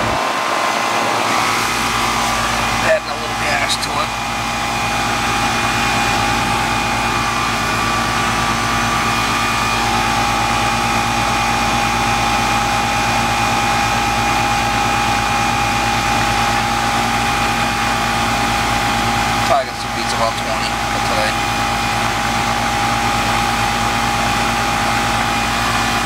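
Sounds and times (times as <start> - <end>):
air conditioning unit humming: 0.0 - 26.0
high whine: 0.0 - 26.0.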